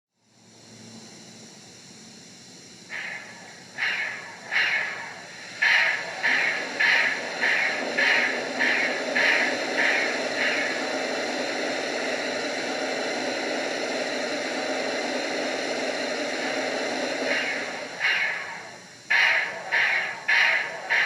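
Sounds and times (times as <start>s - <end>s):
steady steam hiss: 0.2s - 21.0s
steam locomotive exhaust chuffs: 0.2s - 21.0s.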